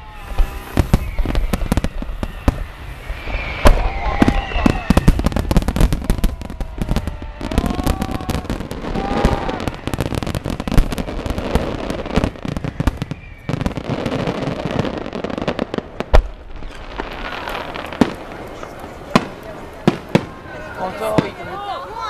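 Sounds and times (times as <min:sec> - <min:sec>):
sharp firework bangs: 0:00.0 - 0:21.4
fireworks booming and crackling: 0:00.0 - 0:22.0.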